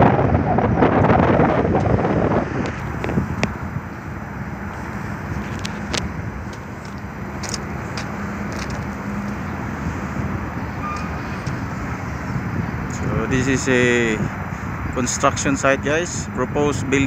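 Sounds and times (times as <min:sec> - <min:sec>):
road traffic engines humming: 0:00.0 - 0:17.0.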